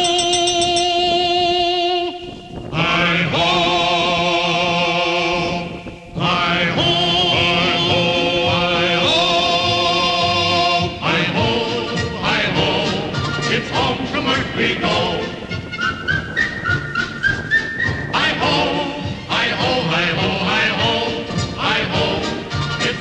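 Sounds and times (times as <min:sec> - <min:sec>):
wordless sung notes with vibrato: 0:00.0 - 0:23.0.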